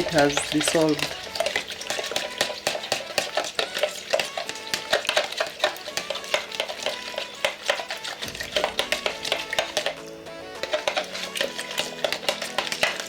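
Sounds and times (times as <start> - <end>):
faint background music: 0.0 - 13.0
utensil clicking against container: 0.0 - 13.0.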